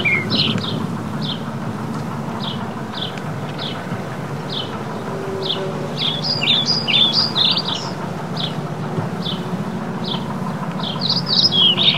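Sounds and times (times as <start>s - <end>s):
distant tractor engine hum: 0.0s - 11.9s
songbird singing: 0.0s - 11.9s.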